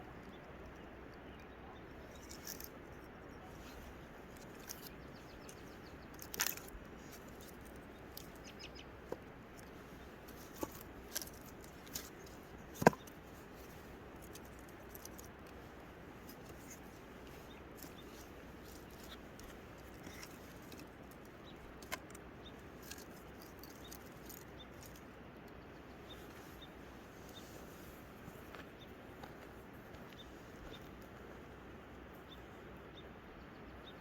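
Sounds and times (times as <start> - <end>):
steady low hiss: 0.0 - 34.0.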